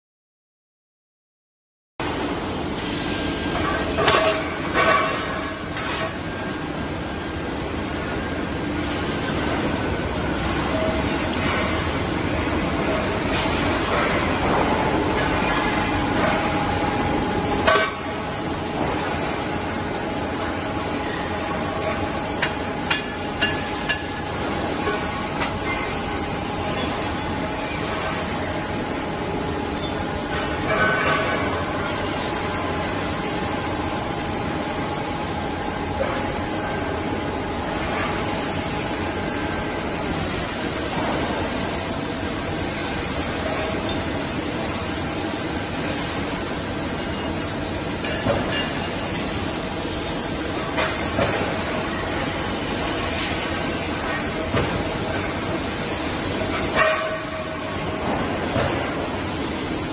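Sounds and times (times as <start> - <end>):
factory machinery running: 2.0 - 59.9.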